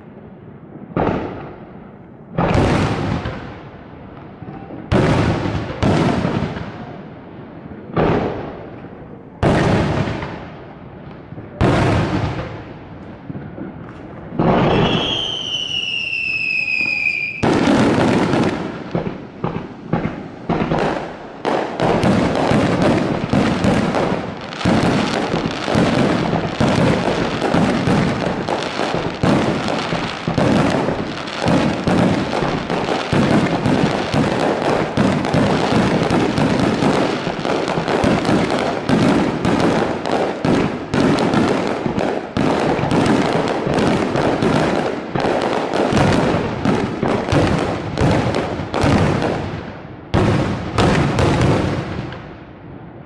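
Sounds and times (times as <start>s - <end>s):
fireworks bursting: 0.8s - 52.4s.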